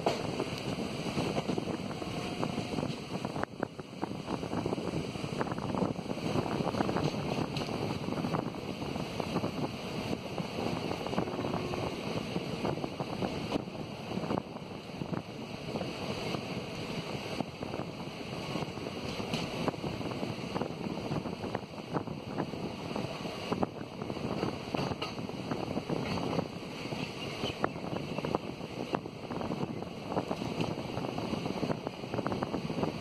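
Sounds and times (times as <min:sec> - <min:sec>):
train wheels rolling on rails: 0:00.0 - 0:33.0
wind rushing past microphone: 0:00.0 - 0:33.0.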